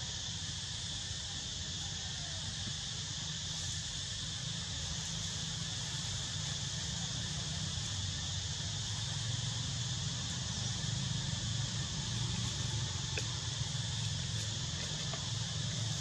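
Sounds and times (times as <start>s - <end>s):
insects chorus: 0.0s - 16.0s.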